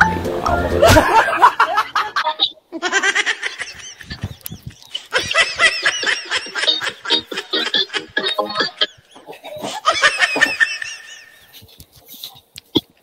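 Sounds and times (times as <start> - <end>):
high-pitched laughter: 0.8 - 11.6.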